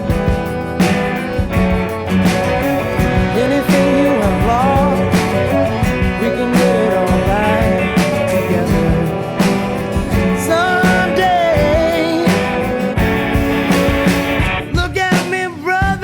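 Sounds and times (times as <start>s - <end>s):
guitar song with singing: 0.0s - 16.0s.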